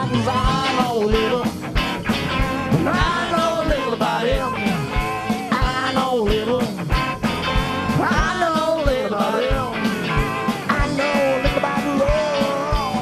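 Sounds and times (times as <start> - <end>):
electric guitar lead line: 0.0 - 13.0
rock band playing: 0.0 - 13.0.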